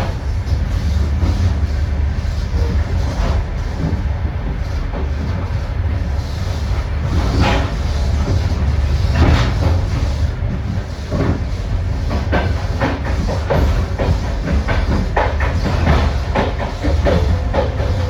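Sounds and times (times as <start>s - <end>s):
train rumble: 0.0s - 18.0s
wheels clicking over rail joints: 0.0s - 18.0s.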